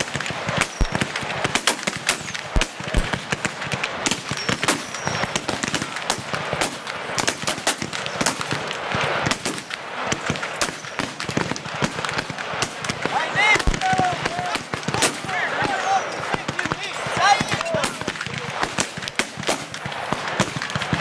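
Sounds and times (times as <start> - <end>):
muskets firing in a volley: 0.0 - 21.0.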